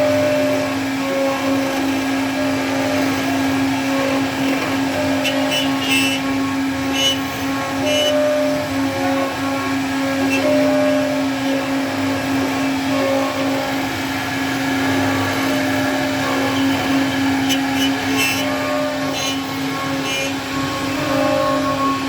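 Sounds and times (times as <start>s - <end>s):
router spindle whining: 0.0s - 22.0s.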